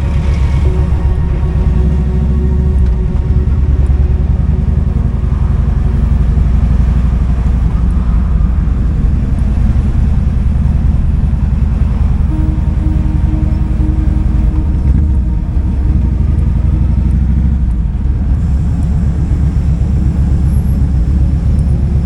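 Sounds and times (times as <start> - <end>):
motorcycle engine running low revs: 0.0 - 22.0.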